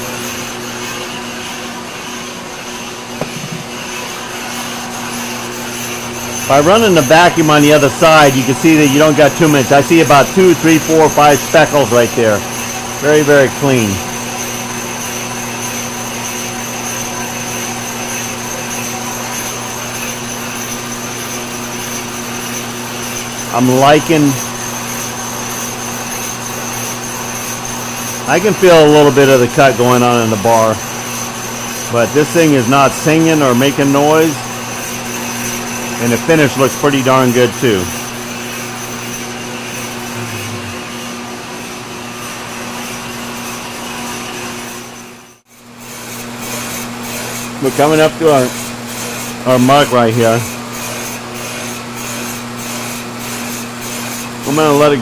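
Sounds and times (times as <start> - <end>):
lathe cutting with high whine: 0.0 - 55.0
shop vacuum running: 0.0 - 55.0.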